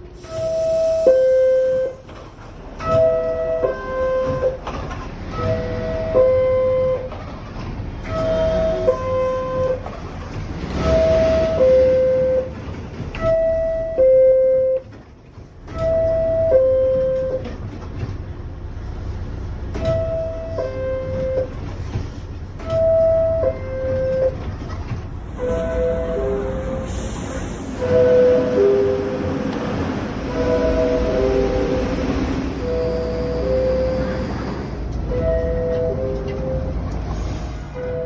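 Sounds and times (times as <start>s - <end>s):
low train rumble: 0.0s - 38.0s.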